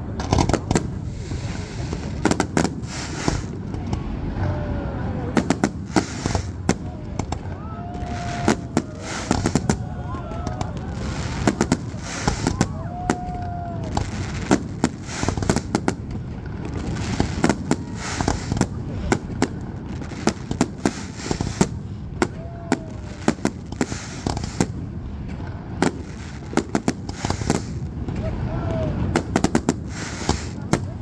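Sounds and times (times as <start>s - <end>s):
fireworks bursting: 0.0s - 4.4s, 5.2s - 31.0s
low rumble of distant explosions: 0.0s - 31.0s.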